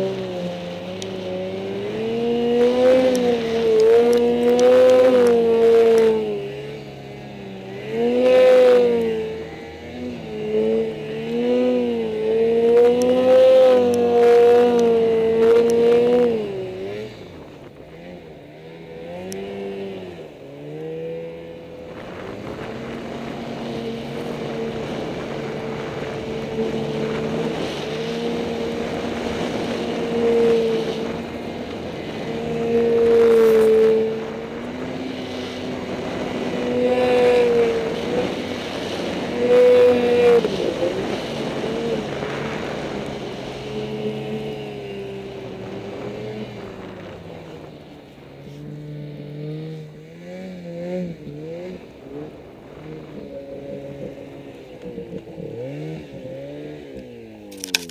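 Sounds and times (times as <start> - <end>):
snowmobile engine running hard: 0.0 - 57.9.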